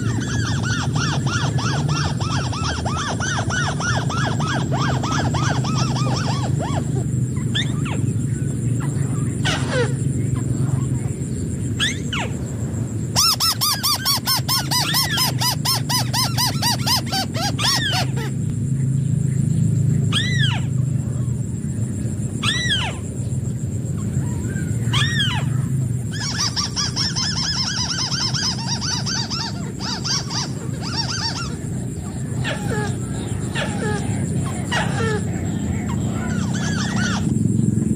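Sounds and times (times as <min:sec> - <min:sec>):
bird down-slurred calls: 0:00.0 - 0:37.9
bird rapid chattering calls: 0:00.0 - 0:37.9.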